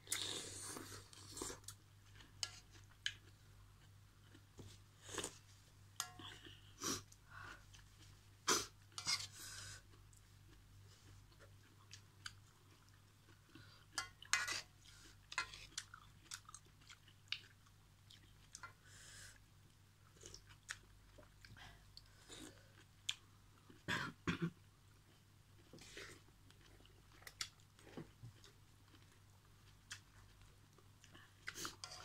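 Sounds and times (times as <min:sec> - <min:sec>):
person chewing noodles: 0:00.0 - 0:05.4, 0:09.8 - 0:23.9, 0:24.9 - 0:32.0.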